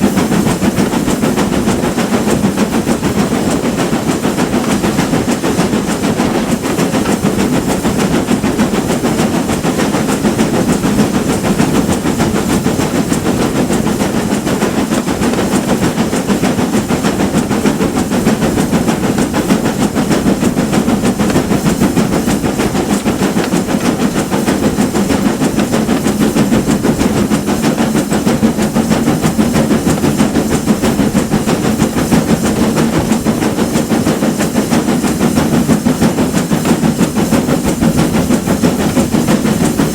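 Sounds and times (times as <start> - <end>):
steam train rumbling with hiss: 0.0 - 39.9.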